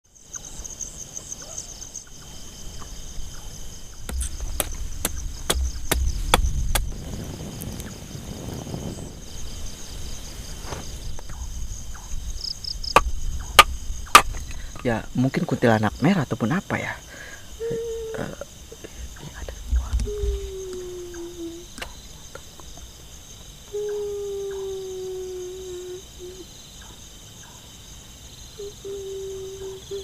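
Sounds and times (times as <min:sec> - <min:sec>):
night insects trilling: 0:00.0 - 0:30.0.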